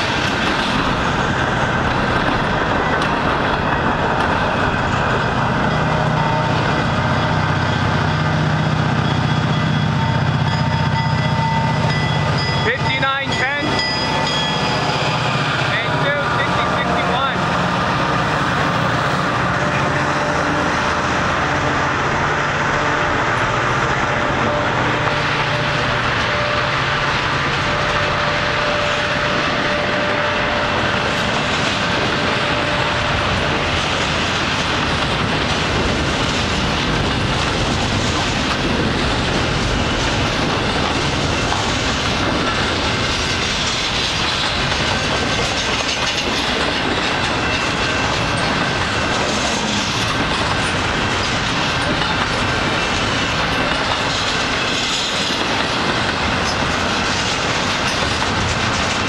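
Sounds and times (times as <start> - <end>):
diesel locomotive drone: 0.0 - 59.0
freight train wheels clacking: 0.0 - 59.0.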